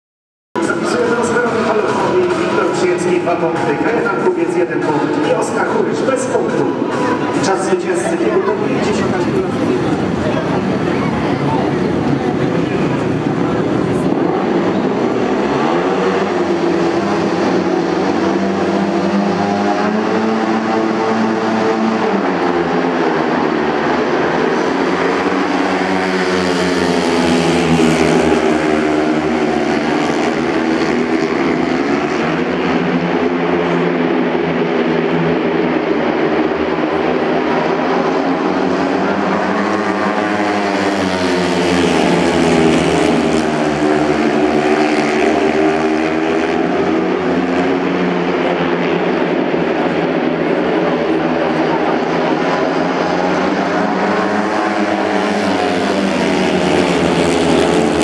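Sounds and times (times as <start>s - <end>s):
motorbike engines racing: 0.6s - 58.0s.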